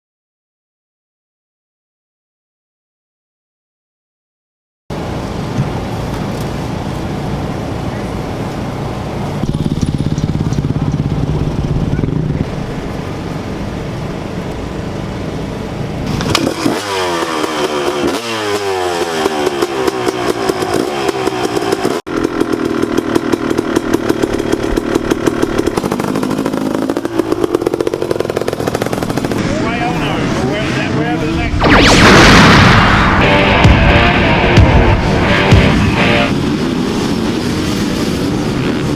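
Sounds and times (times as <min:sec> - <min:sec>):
motocross bike engines: 0:04.9 - 0:31.6, 0:33.2 - 0:38.9.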